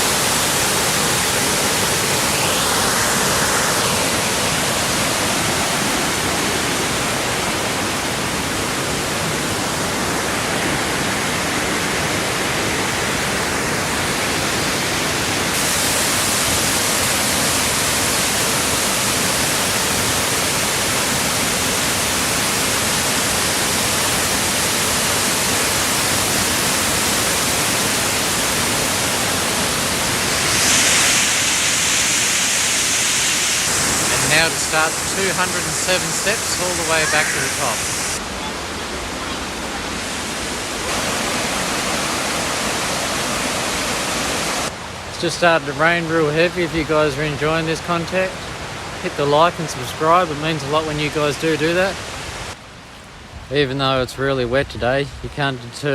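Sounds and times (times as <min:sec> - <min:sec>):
waterfall rushing: 0:00.0 - 0:52.6.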